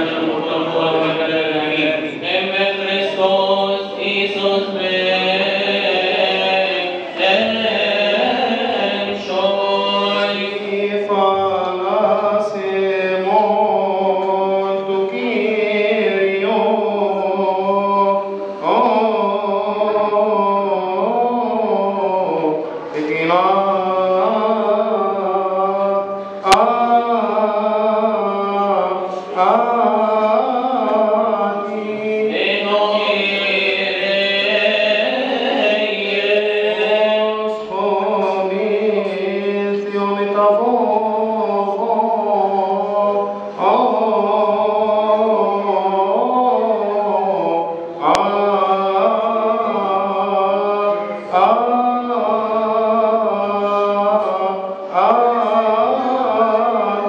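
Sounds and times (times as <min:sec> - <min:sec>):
man chanting a hymn: 0:00.0 - 0:57.0.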